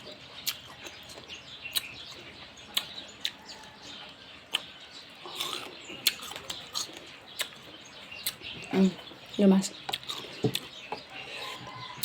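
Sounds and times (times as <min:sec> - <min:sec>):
chewing and mouth smacking: 0:00.0 - 0:08.8, 0:09.8 - 0:12.0.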